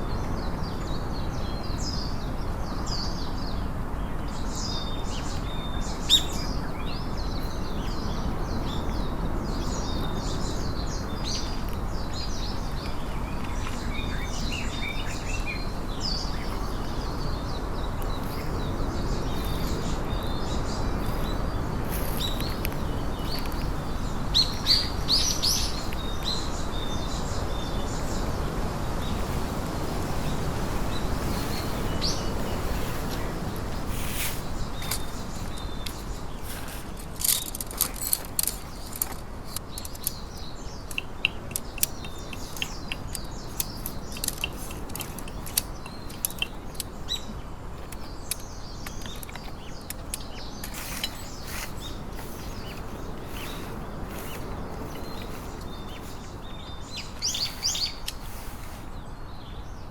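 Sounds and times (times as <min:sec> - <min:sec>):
songbirds chirping and singing: 0:00.0 - 0:59.9
steady rushing background noise: 0:00.0 - 0:59.9.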